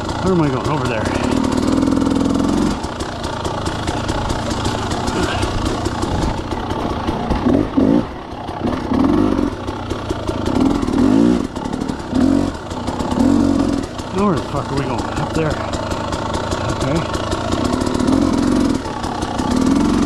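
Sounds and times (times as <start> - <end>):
dirt bike engine: 0.0 - 20.0.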